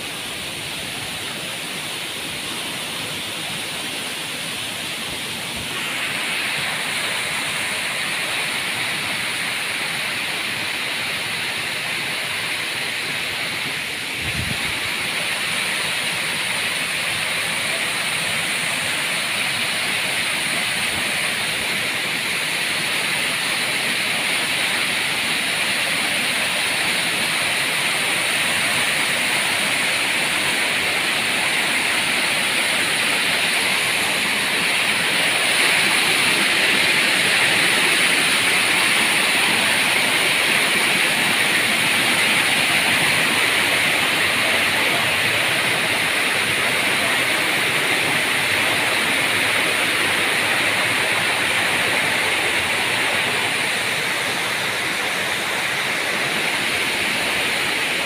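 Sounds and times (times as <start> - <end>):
waterfall rushing over rock: 0.0 - 58.0.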